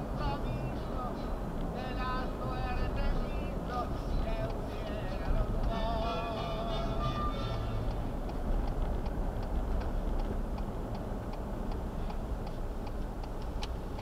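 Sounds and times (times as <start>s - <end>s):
car driving: 0.0s - 14.0s
turn signal clicking: 1.5s - 14.0s.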